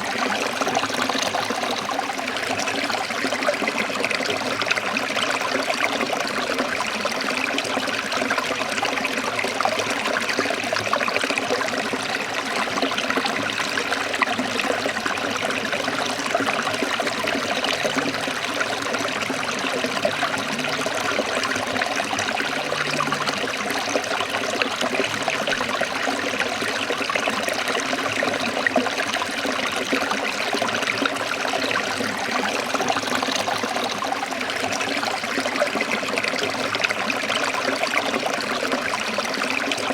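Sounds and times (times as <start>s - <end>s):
stream water trickling and flowing: 0.0s - 39.9s.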